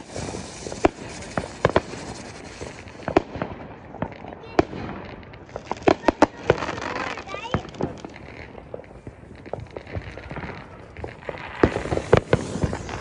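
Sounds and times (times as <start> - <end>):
crackling hiss of fireworks: 0.0 - 13.0
firework bangs: 0.0 - 13.0.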